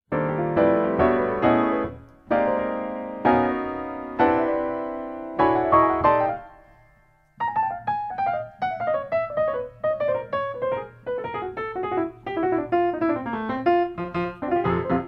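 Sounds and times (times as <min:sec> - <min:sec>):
piano music: 0:00.1 - 0:15.0.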